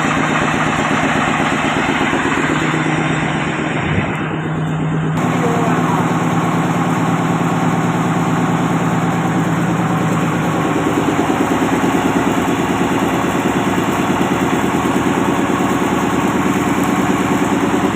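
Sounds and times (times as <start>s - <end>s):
diesel engine chugging: 0.0s - 17.9s.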